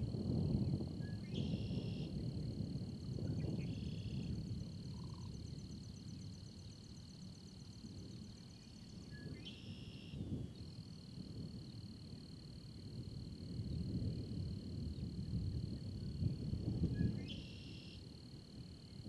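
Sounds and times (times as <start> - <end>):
insect buzzy calls: 0.0 - 19.0
low storm rumble: 0.0 - 19.0
insect high-pitched trill: 0.1 - 19.0.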